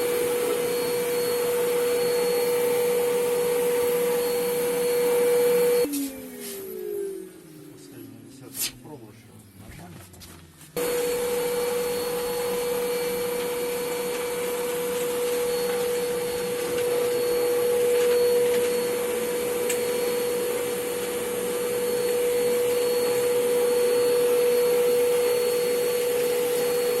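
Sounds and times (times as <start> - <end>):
blower rushing air and humming: 0.0 - 8.5, 10.8 - 27.0.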